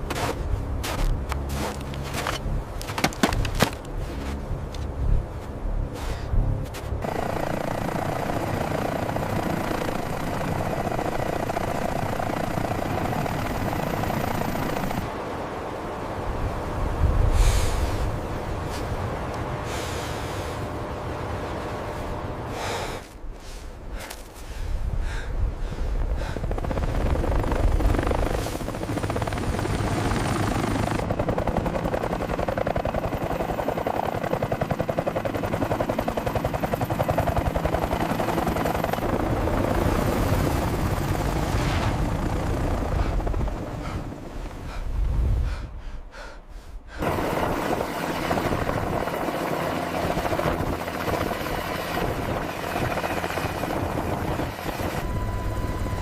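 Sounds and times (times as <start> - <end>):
helicopter rotors and engine: 0.0 - 56.0.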